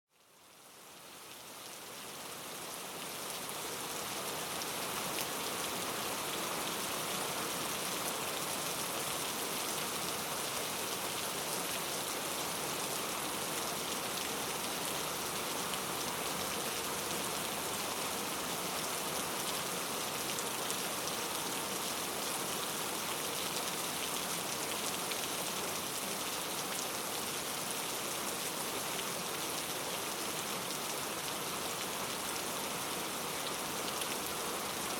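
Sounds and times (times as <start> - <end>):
rain falling steadily: 0.1 - 34.9.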